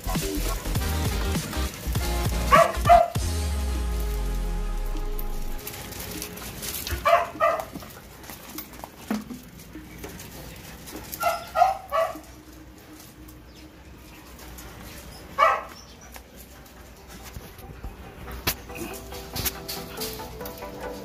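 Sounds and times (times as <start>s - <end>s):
puppies barking: 0.0s - 21.0s.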